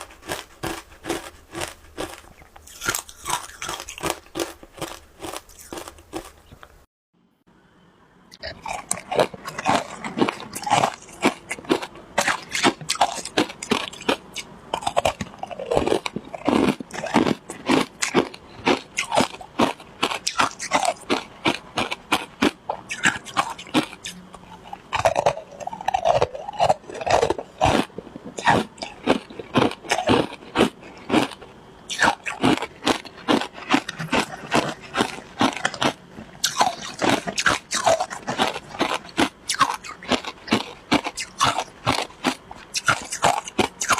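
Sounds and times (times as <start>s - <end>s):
ice crunching while chewed: 0.0s - 6.6s, 8.3s - 43.9s.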